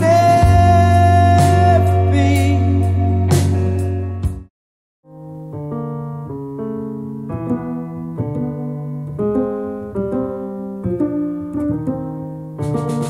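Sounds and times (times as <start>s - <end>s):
piano playing slow chords: 0.0s - 4.5s, 5.1s - 13.0s.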